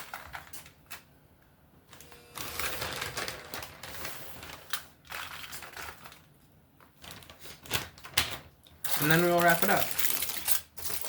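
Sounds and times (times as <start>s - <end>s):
aluminium foil crinkling: 0.0s - 1.0s, 2.4s - 11.0s.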